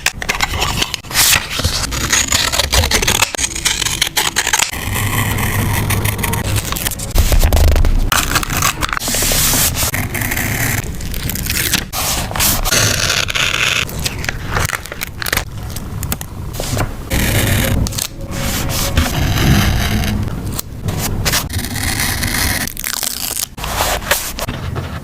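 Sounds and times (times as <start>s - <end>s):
paper scraping and rubbing: 0.1s - 15.8s, 16.5s - 25.0s.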